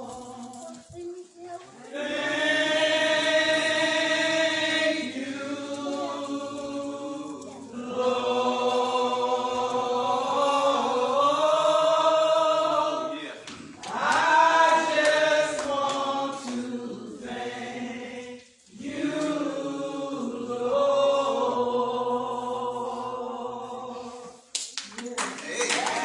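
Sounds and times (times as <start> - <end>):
voices singing a slow hymn: 0.0 - 24.5.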